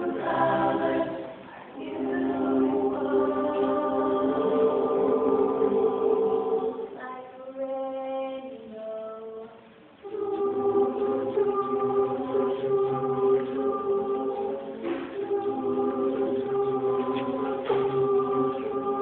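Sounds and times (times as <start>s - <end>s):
mixed choir singing: 0.0s - 7.0s, 10.0s - 19.0s.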